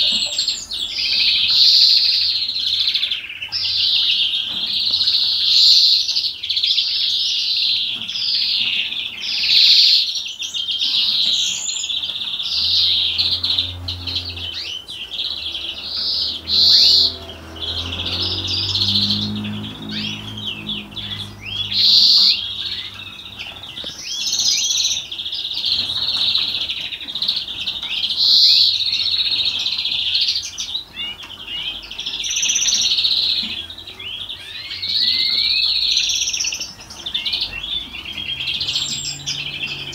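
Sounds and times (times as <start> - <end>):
greenfinch song: 0.0 - 39.9.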